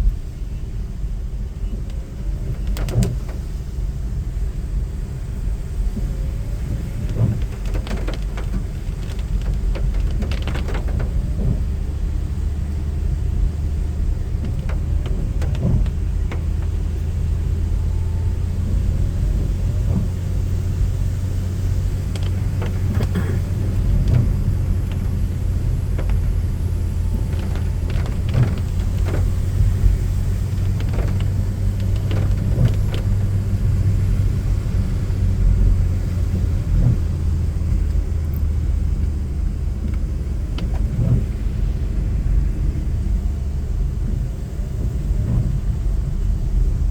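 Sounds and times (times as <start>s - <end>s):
vehicle rumbling on the move: 0.0s - 46.9s
light clicks and knocks: 1.7s - 3.6s, 5.9s - 41.7s.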